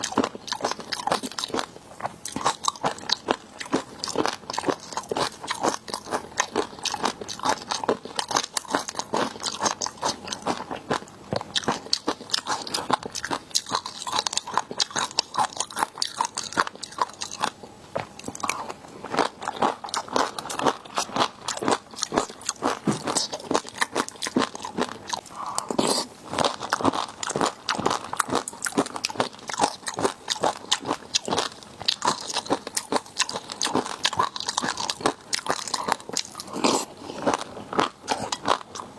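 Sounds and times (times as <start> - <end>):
crunching and chewing seafood: 0.0 - 38.9.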